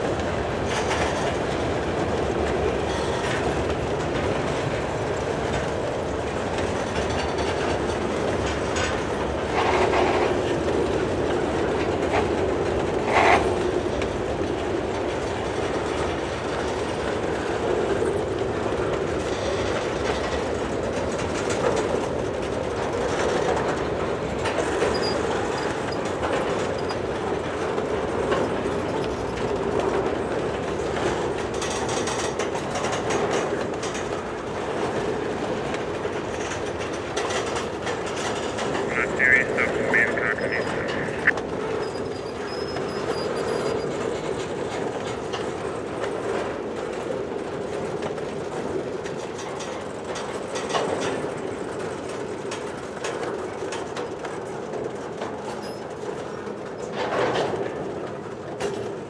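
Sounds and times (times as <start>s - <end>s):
wheels clicking over rail joints: 0.0s - 38.9s, 41.4s - 59.0s
freight train rolling past: 0.0s - 50.0s.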